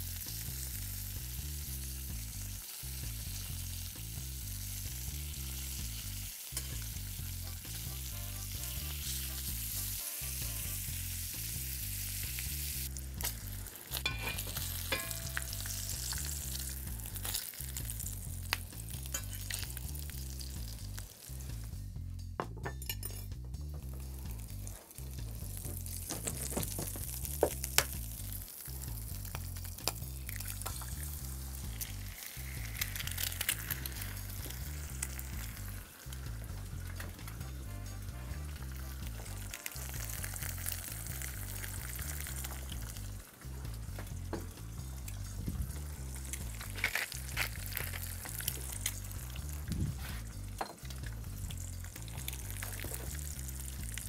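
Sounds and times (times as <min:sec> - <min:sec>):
egg sizzling in fat: 0:00.0 - 0:21.9, 0:23.9 - 0:54.0.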